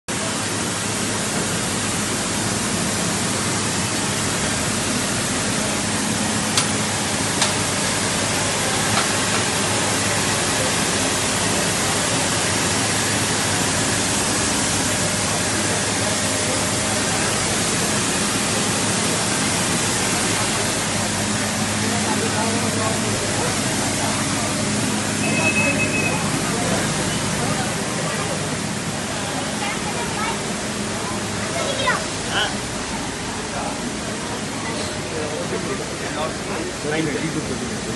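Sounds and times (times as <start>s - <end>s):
steam hissing from locomotive: 0.1s - 37.9s.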